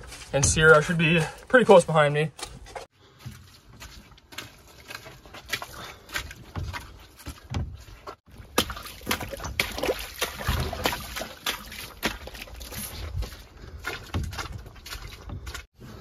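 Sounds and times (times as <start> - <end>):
footsteps splashing through mud: 0.0 - 16.0.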